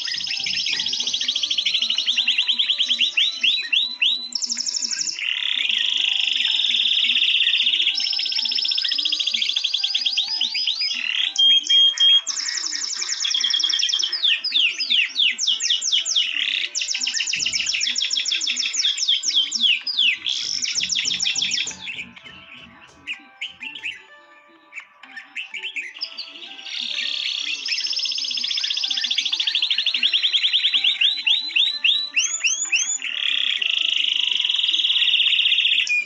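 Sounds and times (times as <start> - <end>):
soft background music: 0.0 - 36.0
songbirds chirping and trilling: 0.0 - 36.0.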